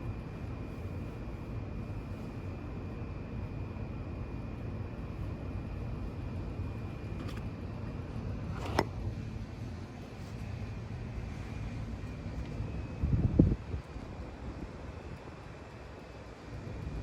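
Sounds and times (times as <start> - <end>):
ceiling fan air rush: 0.0 - 17.0
high fan whine: 0.0 - 17.0.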